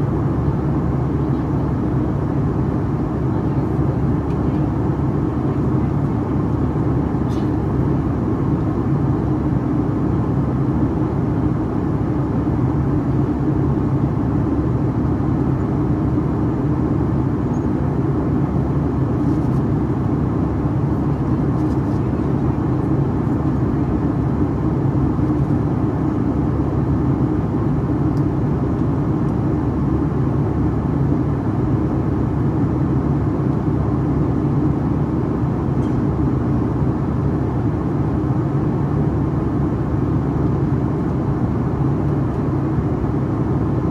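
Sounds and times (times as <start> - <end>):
jet engine drone: 0.0 - 43.9.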